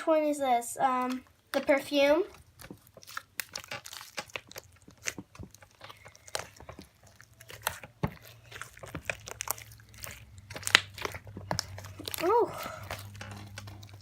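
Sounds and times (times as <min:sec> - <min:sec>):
slime squished by hand: 0:01.0 - 0:14.0.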